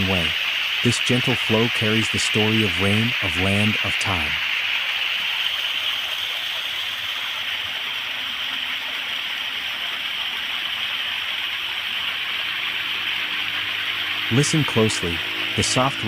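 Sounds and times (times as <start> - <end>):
water stream flowing: 0.0 - 16.0.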